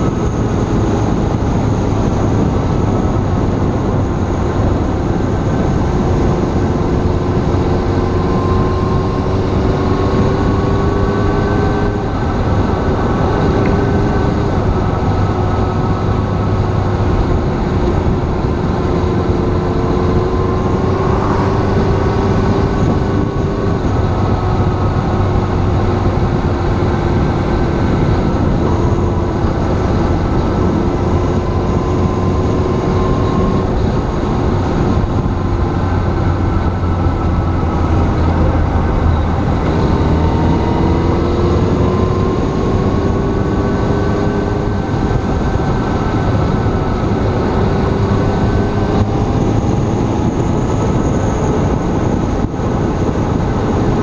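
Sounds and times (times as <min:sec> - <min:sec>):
motorcycle engine running: 0:00.0 - 0:54.0
wind rush: 0:00.0 - 0:54.0.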